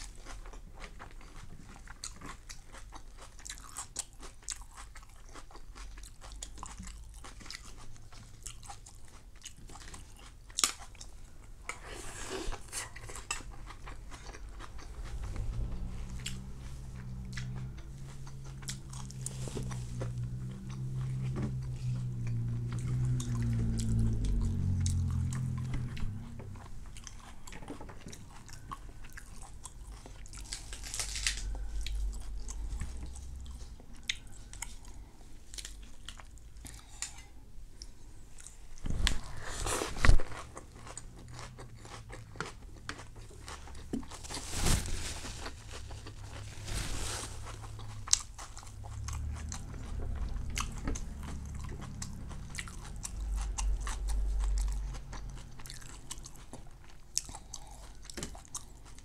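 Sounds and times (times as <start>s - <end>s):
person chewing crispy food: 0.0s - 59.0s.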